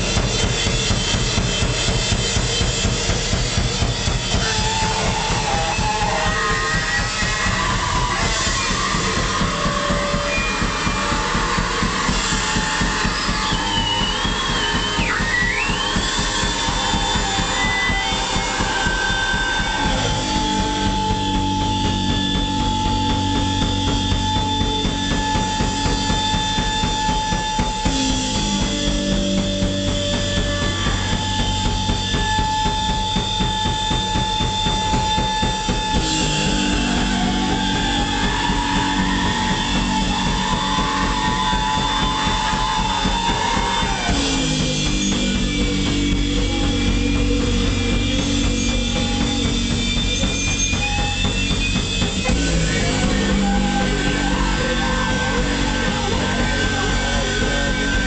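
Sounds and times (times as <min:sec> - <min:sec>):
distorted electric guitar: 0:00.0 - 0:58.0
fast drumming: 0:00.0 - 0:58.0
high whining tone: 0:03.8 - 0:58.0.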